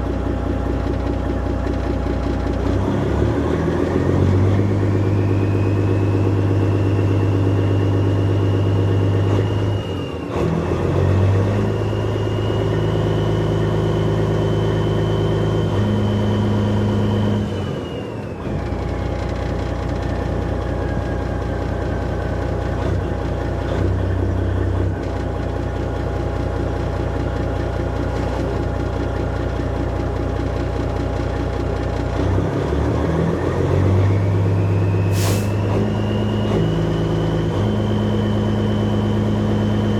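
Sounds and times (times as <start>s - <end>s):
truck diesel engine deep drone: 0.0s - 39.9s.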